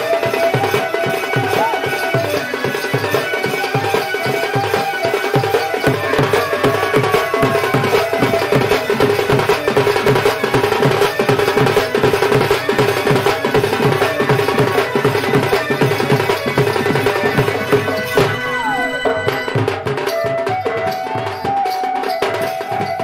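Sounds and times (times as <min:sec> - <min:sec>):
drums playing fast beat: 0:00.0 - 0:23.0
held melody line: 0:00.0 - 0:23.0.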